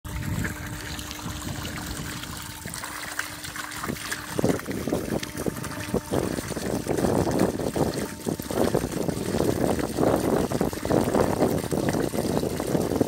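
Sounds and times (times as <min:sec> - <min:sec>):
hose water splashing into plastic tub: 0:00.1 - 0:13.0.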